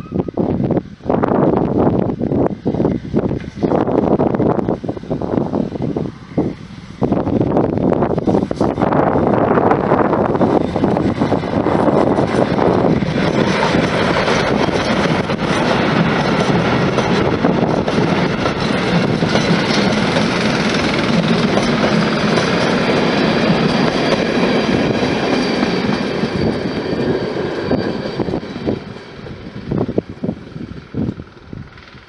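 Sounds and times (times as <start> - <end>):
steam train passing: 0.0 - 32.0.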